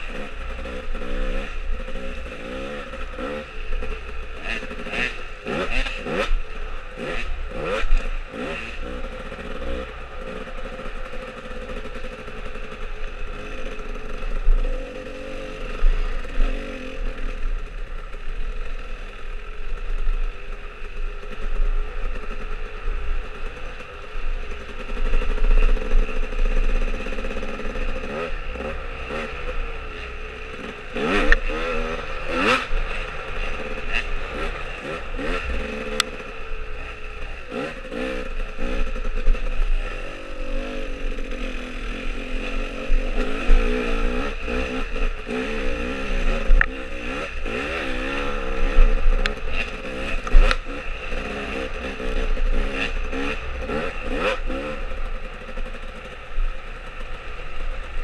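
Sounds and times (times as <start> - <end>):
dirt bike engine revving: 0.0 - 57.8.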